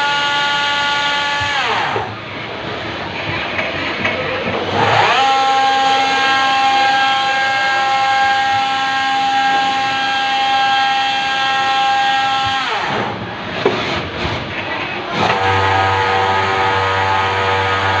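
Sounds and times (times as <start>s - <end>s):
lathe spindle whining: 0.0s - 18.0s.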